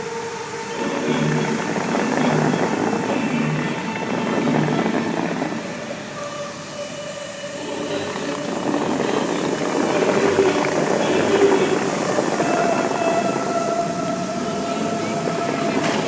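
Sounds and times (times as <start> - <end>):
faint music: 0.0 - 16.0
fountain water rushing: 0.0 - 16.0
voices: 0.0 - 16.0.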